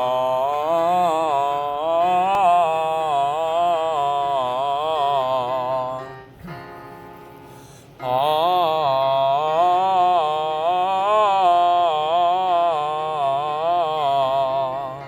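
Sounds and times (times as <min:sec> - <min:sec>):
person singing a long vowel: 0:00.0 - 0:06.4, 0:08.0 - 0:15.0.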